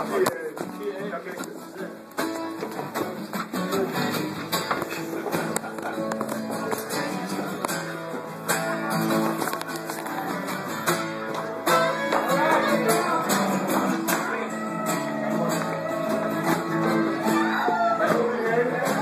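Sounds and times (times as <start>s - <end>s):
acoustic string band playing: 1.2s - 19.0s.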